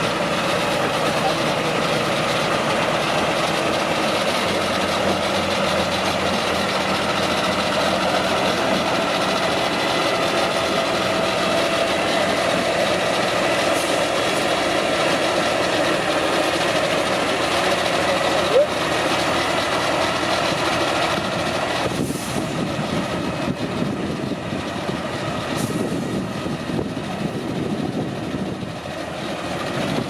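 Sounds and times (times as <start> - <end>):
heavy truck engine running: 0.0 - 30.0.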